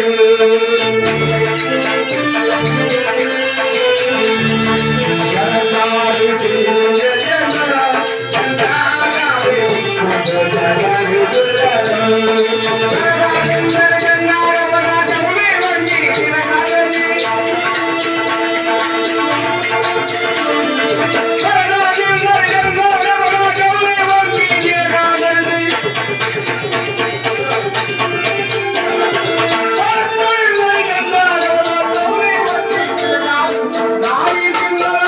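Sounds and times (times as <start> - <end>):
jingling hand percussion: 0.0 - 35.0
man singing into a microphone: 0.0 - 35.0
electronic keyboard chords: 0.1 - 33.6.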